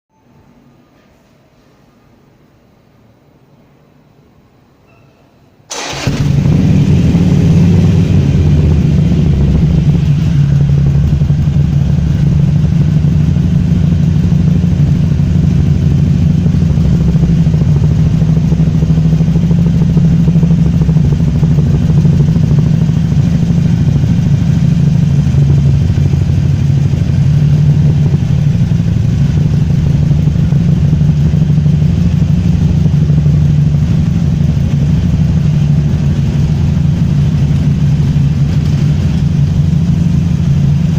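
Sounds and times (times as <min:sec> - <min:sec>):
motorcycle engine idling loudly: 0:05.8 - 0:40.9.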